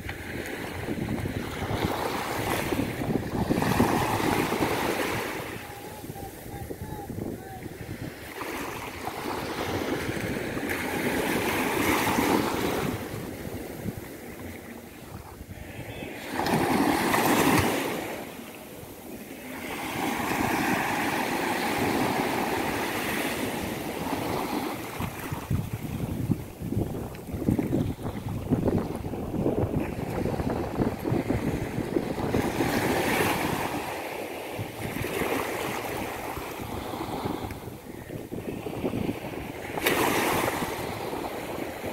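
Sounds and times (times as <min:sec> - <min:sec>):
wind buffeting microphone: 0:00.0 - 0:19.2, 0:19.8 - 0:41.9
waves washing onto sand: 0:00.0 - 0:41.9
surf breaking on beach: 0:00.1 - 0:41.9.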